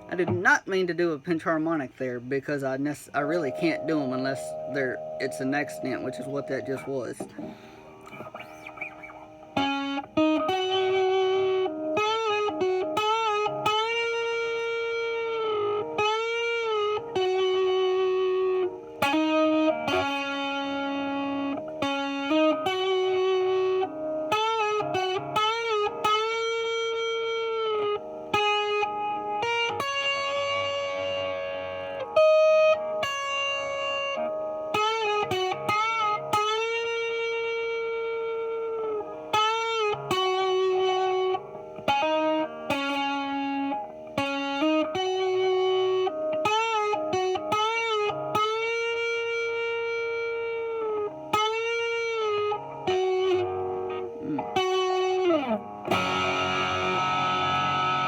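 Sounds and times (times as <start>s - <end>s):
distorted electric guitar lead: 0.0s - 1.4s, 2.3s - 58.0s.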